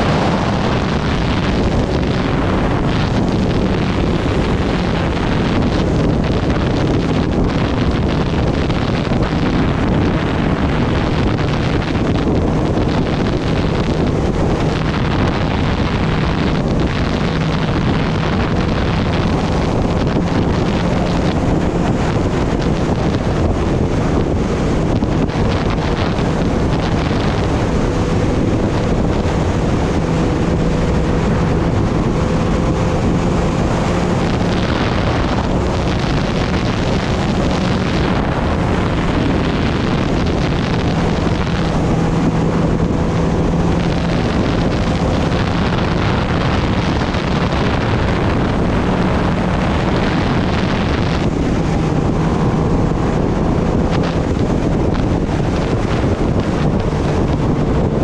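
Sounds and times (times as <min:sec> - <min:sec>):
motorcycle engine humming: 0:00.0 - 0:58.0
wind rush on microphone: 0:00.0 - 0:58.0.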